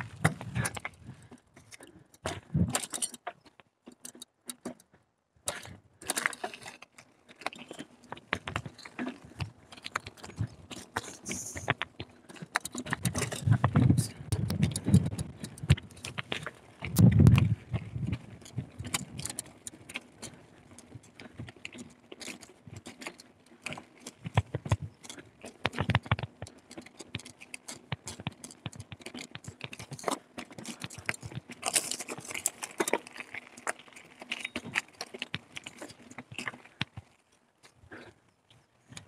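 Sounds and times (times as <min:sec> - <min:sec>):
mountain bike rattling on trail: 0:00.0 - 0:39.0.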